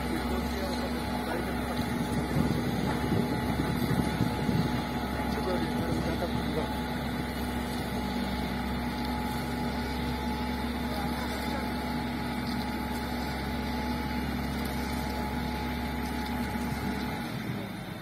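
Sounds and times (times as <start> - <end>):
diesel machinery engines running: 0.0 - 18.0.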